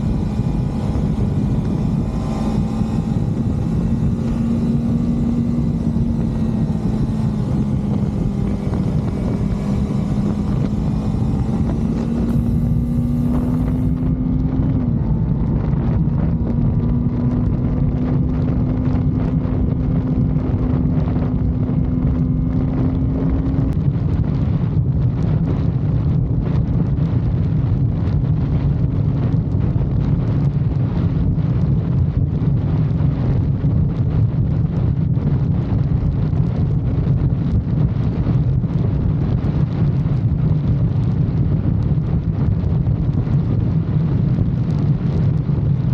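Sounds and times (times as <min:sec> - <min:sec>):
motorcycle engine running: 0:00.0 - 0:45.9
wind rushing over microphone: 0:00.0 - 0:45.9.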